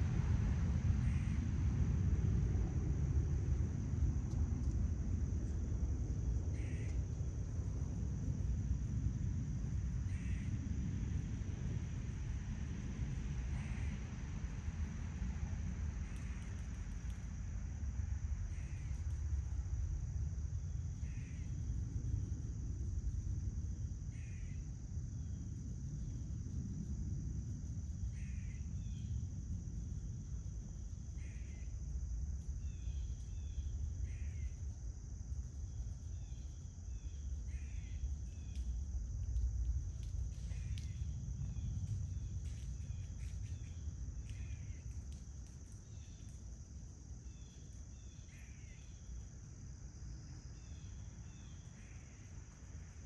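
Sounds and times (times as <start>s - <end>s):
insects trilling: 0.0s - 53.0s
steady low rumble: 0.0s - 53.0s.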